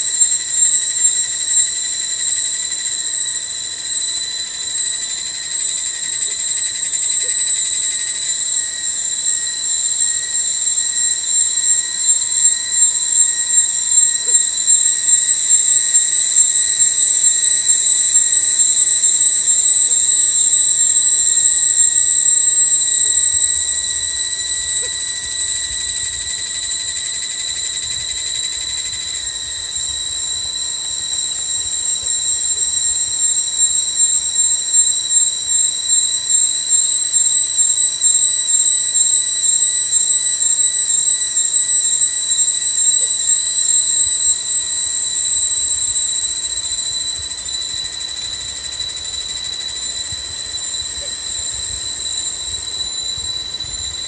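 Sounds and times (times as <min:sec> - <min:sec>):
cicadas chorus: 0:00.0 - 0:54.0.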